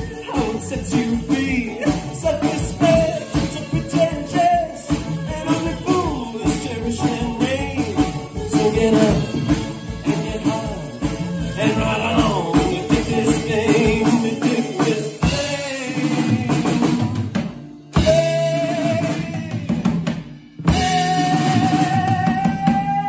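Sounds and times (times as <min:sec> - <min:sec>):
live band playing: 0:00.0 - 0:23.0
person singing: 0:00.0 - 0:23.0.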